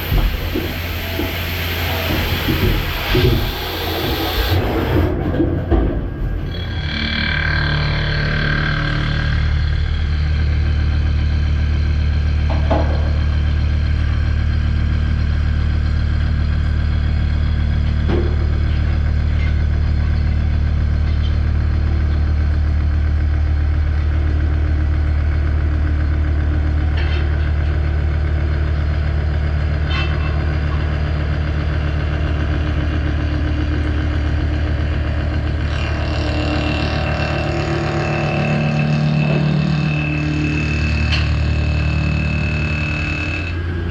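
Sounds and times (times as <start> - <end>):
machining center humming: 0.0 - 22.6, 24.9 - 43.9.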